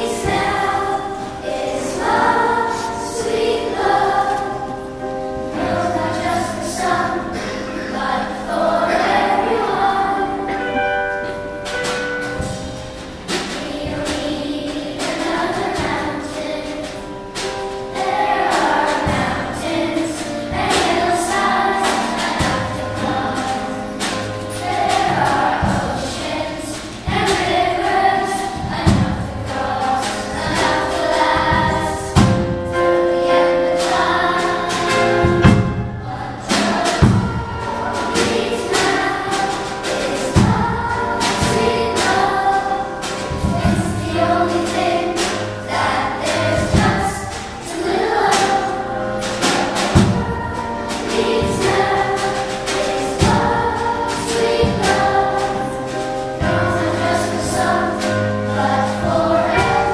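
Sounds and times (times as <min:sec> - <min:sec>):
boys' choir singing: 0:00.0 - 0:59.9
stage band playing: 0:00.0 - 0:59.9.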